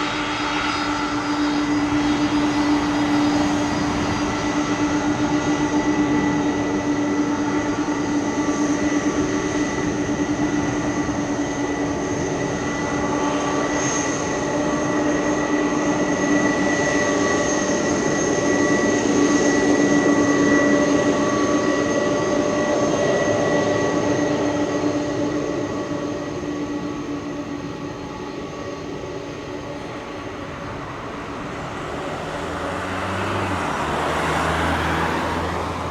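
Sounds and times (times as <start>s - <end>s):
jet engines whining and rumbling: 0.0s - 35.9s.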